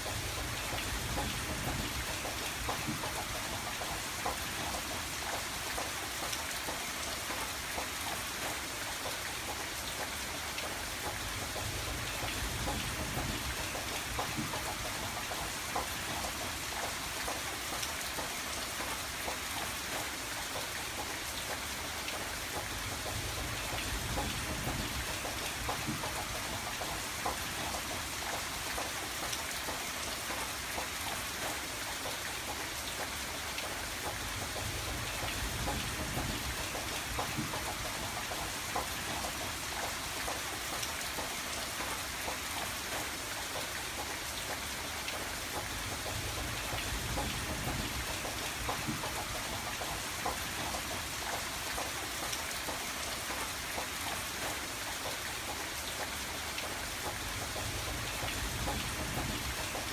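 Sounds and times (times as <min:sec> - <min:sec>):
rain ticking on window: 0:00.0 - 0:59.9.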